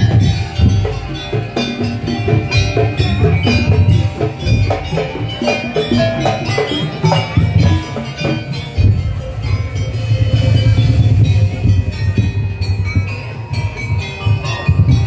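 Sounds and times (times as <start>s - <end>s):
percussion ensemble playing: 0.0s - 15.0s.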